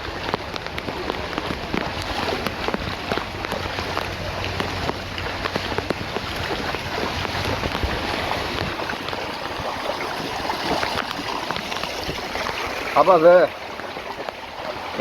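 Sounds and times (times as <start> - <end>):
heavy rain hissing: 0.0 - 13.4
raindrops tapping: 0.0 - 15.0.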